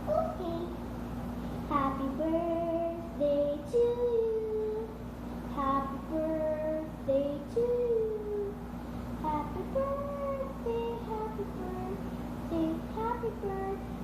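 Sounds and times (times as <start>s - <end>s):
girl singing: 0.0s - 0.9s, 1.7s - 14.0s
steady low hum: 0.0s - 14.0s.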